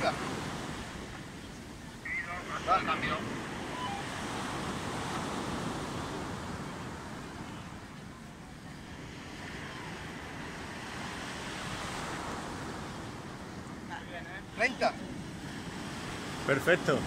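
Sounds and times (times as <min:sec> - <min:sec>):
surf: 0:00.0 - 0:17.0
wind buffeting microphone: 0:00.0 - 0:17.0.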